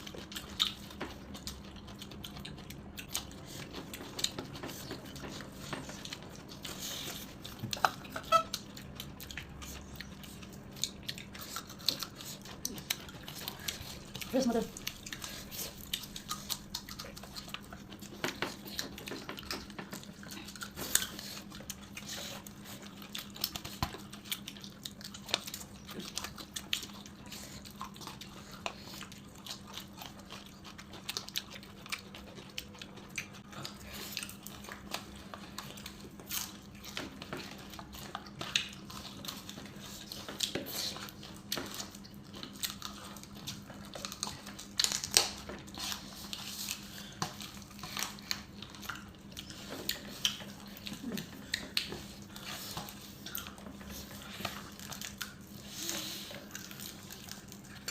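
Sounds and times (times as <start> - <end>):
chewing: 0.0 - 57.9.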